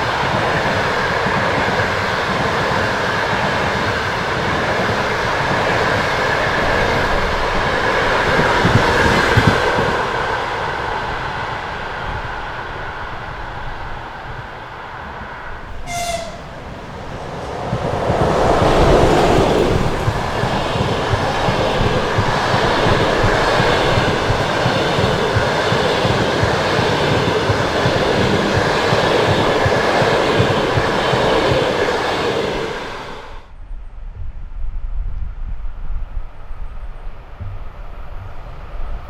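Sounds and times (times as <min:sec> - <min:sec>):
train wheels rumbling on rails: 0:00.0 - 0:33.6.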